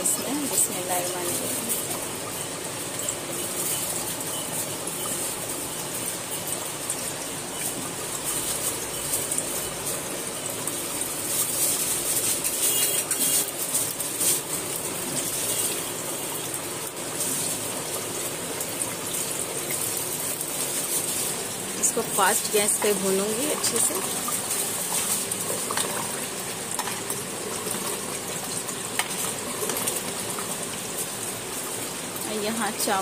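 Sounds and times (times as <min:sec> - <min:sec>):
potatoes sizzling in hot oil: 0:00.0 - 0:33.0.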